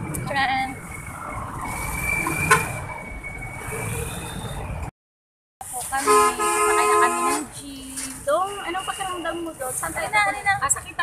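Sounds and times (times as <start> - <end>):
traffic road noise: 0.0 - 5.0, 5.6 - 11.0.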